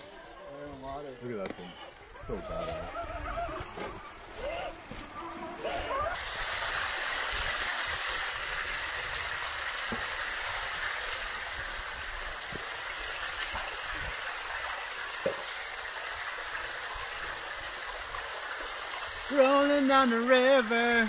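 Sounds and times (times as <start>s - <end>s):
creek water flowing: 0.0s - 21.0s.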